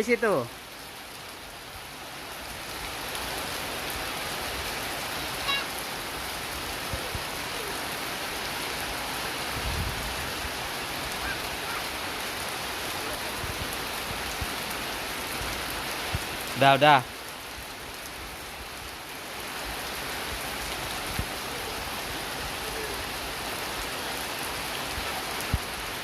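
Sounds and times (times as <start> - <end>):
steady rain pattering: 0.0 - 26.0.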